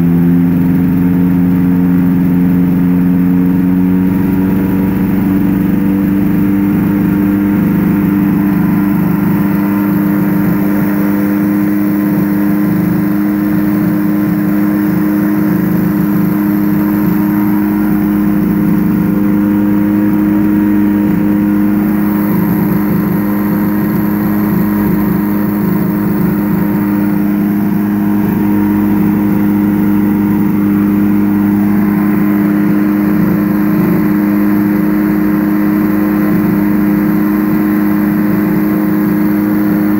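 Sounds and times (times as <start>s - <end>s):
light aircraft engine humming: 0.0s - 39.9s.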